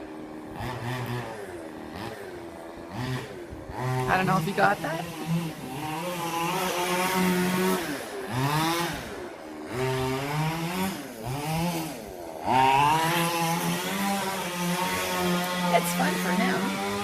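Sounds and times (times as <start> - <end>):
toy car engine buzzing: 0.0 - 17.0.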